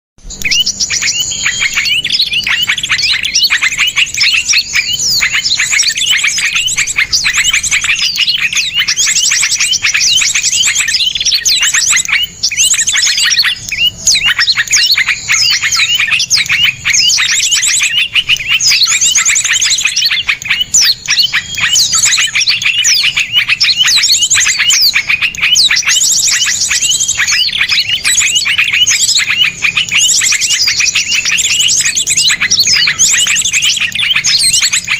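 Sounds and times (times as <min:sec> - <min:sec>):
songbirds trilling and chipping: 0:00.2 - 0:34.9.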